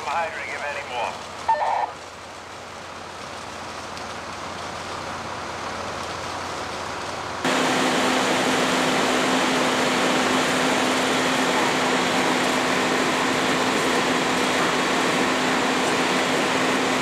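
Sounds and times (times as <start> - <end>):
engine hum: 0.0 - 17.0
fire hose nozzle spraying water: 0.6 - 17.0.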